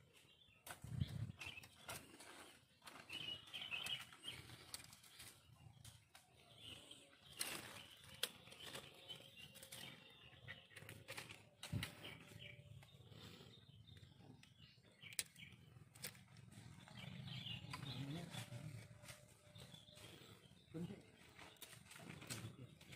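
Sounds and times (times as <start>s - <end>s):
faint birds chirping: 0.0s - 22.9s
rustling of dry leaves and stalks: 0.1s - 22.9s.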